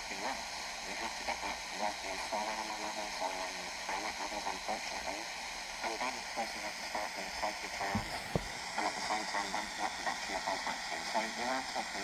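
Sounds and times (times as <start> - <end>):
muffled man talking on radio: 0.0 - 12.0
radio static hiss: 0.0 - 12.0.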